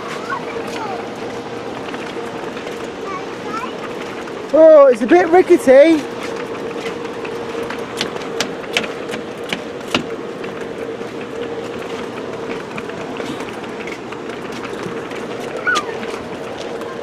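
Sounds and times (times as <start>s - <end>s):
footsteps on footbridge: 0.0s - 17.0s
steady hum: 0.0s - 17.0s.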